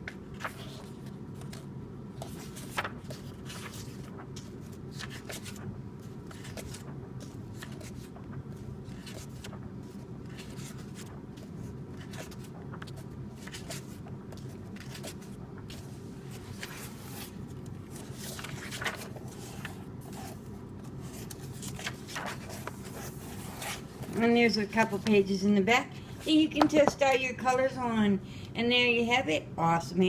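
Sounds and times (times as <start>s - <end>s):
paper pages rustling: 0.0s - 25.4s
steady low hum: 0.0s - 30.0s.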